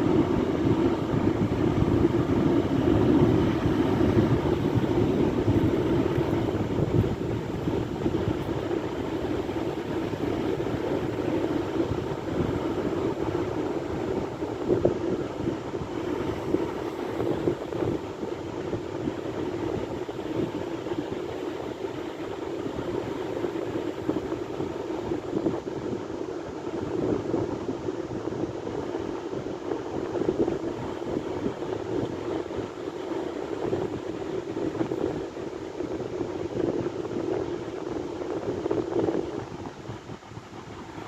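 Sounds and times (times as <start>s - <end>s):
sea surf: 0.0s - 36.8s.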